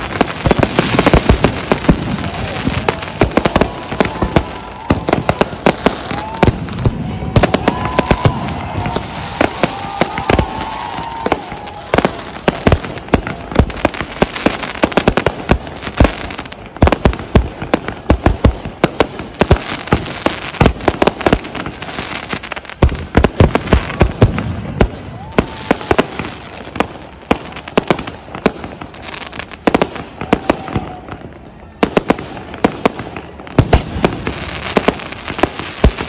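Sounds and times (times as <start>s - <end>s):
fireworks exploding: 0.0s - 36.0s.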